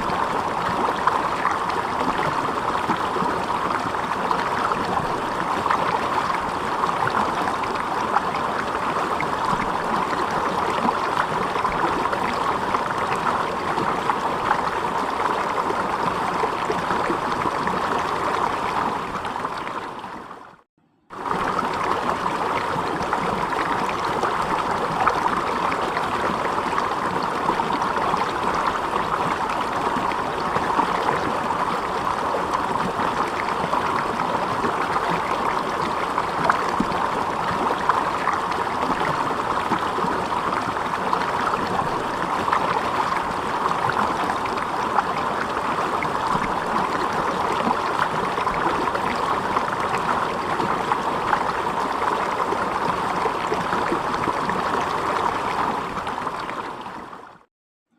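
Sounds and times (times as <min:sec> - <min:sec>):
water flowing: 0:00.0 - 0:57.5.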